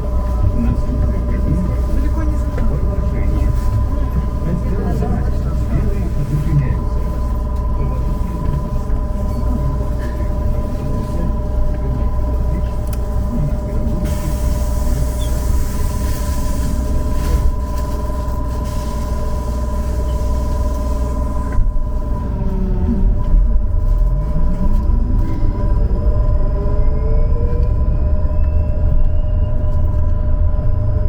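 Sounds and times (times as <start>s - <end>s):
trolleybus rumble: 0.0s - 31.0s.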